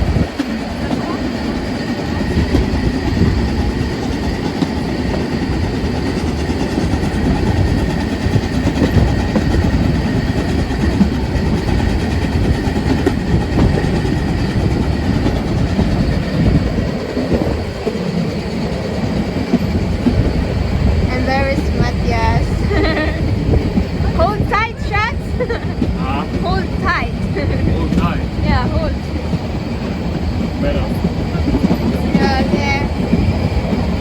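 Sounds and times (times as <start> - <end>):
train rumbling: 0.0 - 34.0
train wheels clattering: 0.0 - 34.0.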